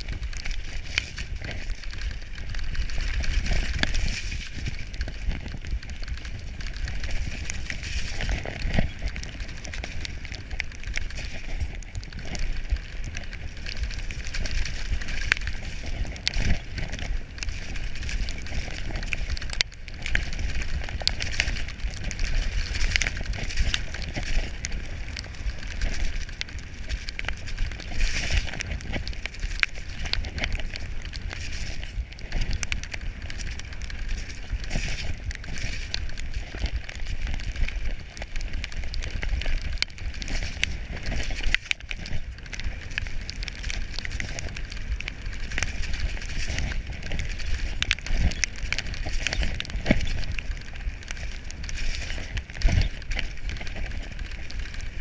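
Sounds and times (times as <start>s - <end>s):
stones and bike rattling: 0.0s - 55.0s
wind rumble on microphone: 0.0s - 55.0s.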